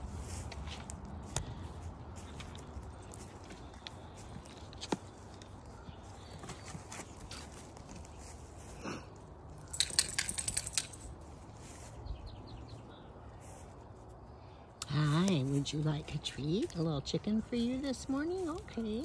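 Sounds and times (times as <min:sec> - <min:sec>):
footsteps crunching on wood chips: 0:00.0 - 0:09.5, 0:11.0 - 0:14.3, 0:14.9 - 0:19.0.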